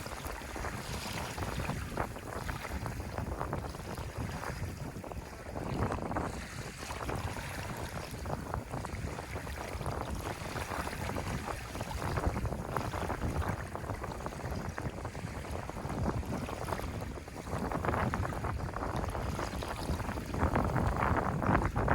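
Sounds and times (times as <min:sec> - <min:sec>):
sea waves washing on shore: 0:00.0 - 0:21.9
wind rumbling on microphone: 0:00.0 - 0:21.9.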